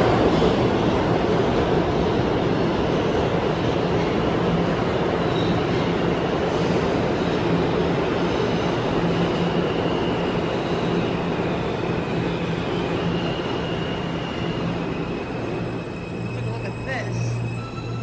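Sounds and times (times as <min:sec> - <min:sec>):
subway train wheels rumbling on rail: 0:00.0 - 0:18.0.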